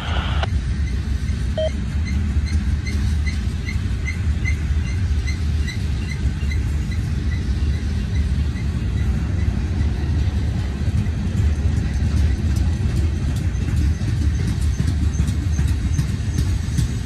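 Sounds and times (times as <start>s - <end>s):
train cars rolling on rails: 0.0s - 17.0s.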